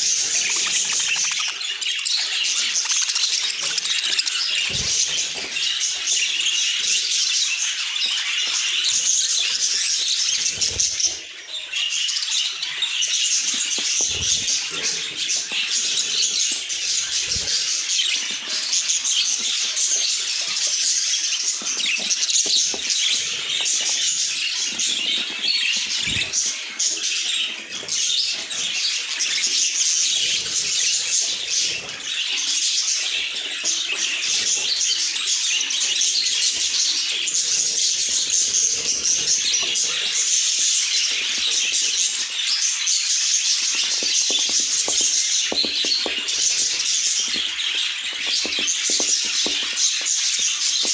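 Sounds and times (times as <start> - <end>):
budgies chirping and chattering: 0.0 - 50.9.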